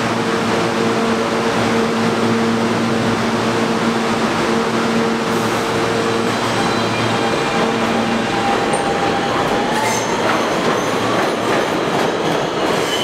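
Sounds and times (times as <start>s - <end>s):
subway train humming: 0.0s - 13.0s.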